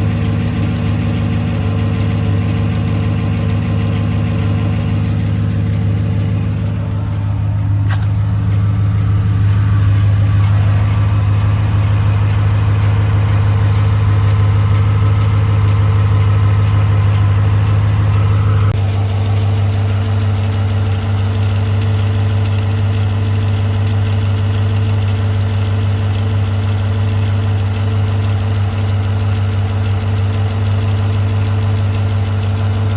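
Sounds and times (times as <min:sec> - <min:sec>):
engine idling with ticking: 0:00.0 - 0:32.9.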